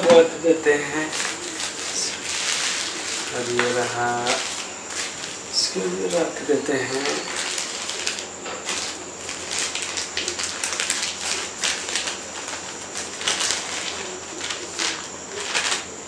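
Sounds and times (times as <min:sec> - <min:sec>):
packing wrapper crinkling: 0:00.0 - 0:16.0.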